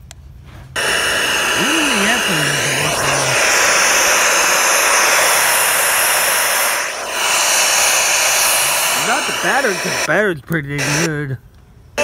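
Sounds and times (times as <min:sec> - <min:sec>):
radio static hiss: 0:00.8 - 0:11.2.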